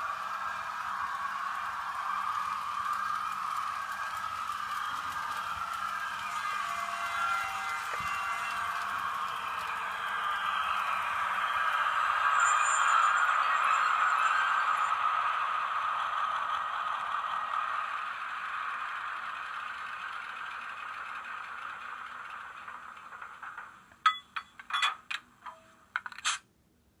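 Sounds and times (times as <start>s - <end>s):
sharp clicks and clacks: 0.0s - 12.4s, 15.0s - 26.5s
diesel locomotive engine through small speaker: 0.0s - 24.7s.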